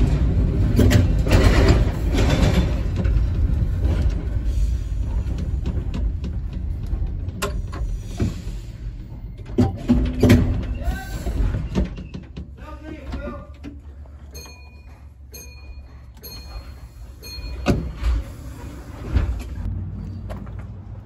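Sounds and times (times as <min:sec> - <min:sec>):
tram wheels rumbling on rail: 0:00.0 - 0:13.0, 0:14.0 - 0:21.0
tram clattering and clicks: 0:00.0 - 0:21.0.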